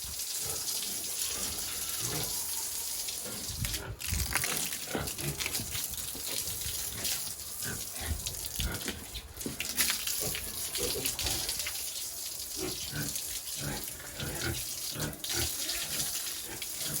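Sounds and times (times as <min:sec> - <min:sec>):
running water hissing: 0:00.0 - 0:17.0
pigs grunting: 0:00.3 - 0:02.6, 0:03.2 - 0:11.7, 0:12.5 - 0:17.0.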